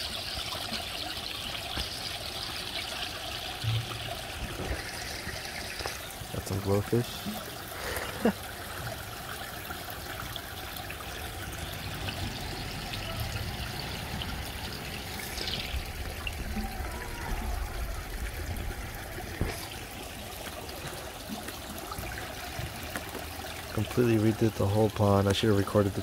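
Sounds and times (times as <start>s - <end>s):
fountain water trickling and splashing: 0.0s - 26.0s.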